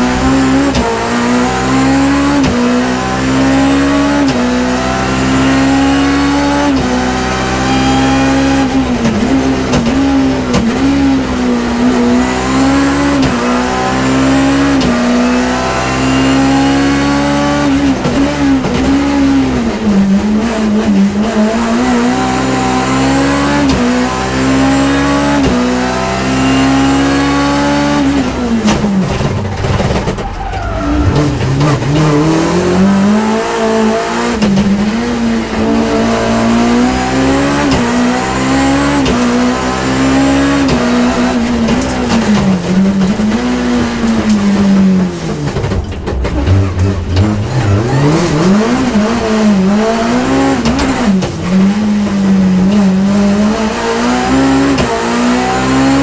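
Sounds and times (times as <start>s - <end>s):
car engine revving at full throttle: 0.0s - 56.0s.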